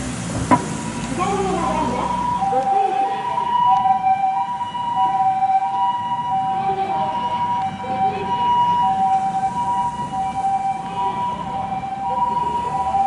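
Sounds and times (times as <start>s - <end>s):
road traffic rumble: 0.0s - 13.0s
two-tone ambulance siren: 0.0s - 13.0s.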